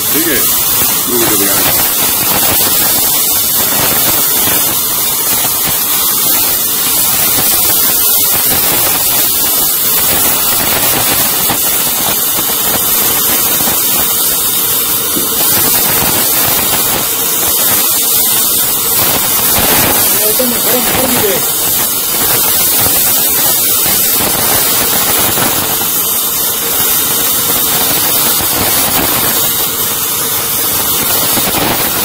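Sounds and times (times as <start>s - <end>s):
welding hiss with crackling: 0.0s - 32.0s.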